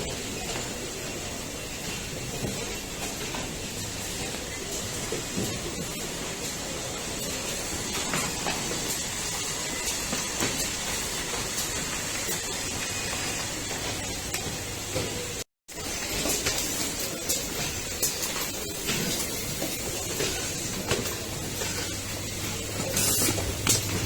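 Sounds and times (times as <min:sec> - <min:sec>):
steady hiss-like factory hum: 0:00.0 - 0:24.0.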